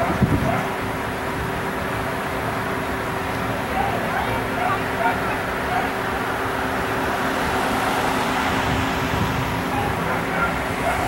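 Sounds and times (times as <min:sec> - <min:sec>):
street traffic noise: 0:00.0 - 0:11.0
vehicle engine humming: 0:00.0 - 0:11.0.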